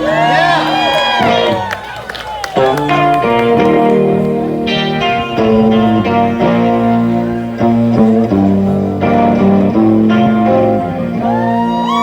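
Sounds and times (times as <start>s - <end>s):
guitar chords: 0.0s - 12.0s.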